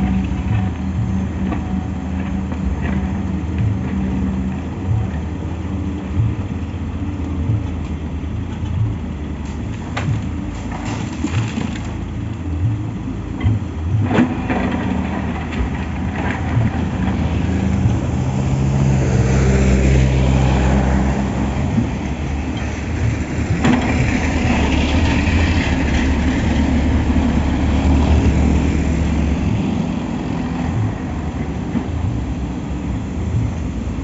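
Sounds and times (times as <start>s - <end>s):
heavy diesel engines running: 0.0s - 34.0s.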